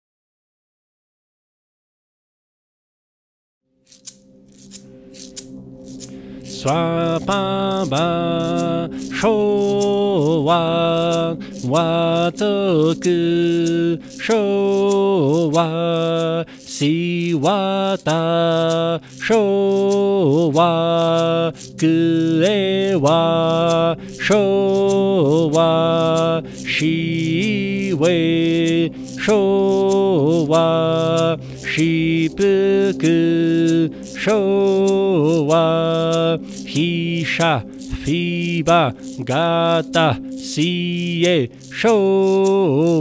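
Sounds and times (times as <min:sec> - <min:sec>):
steady low drone: 0:04.1 - 0:43.0
person chanting slowly: 0:06.4 - 0:43.0.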